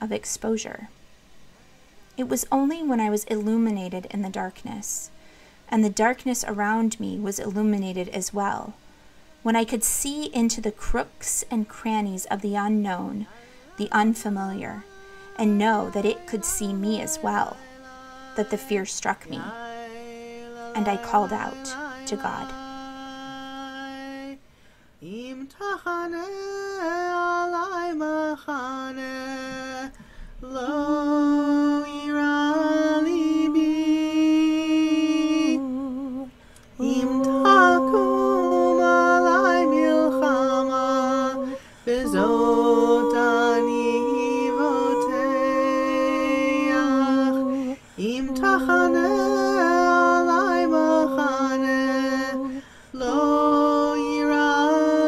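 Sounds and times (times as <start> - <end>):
women singing a cappella chant: 2.1 - 24.4, 25.0 - 55.0.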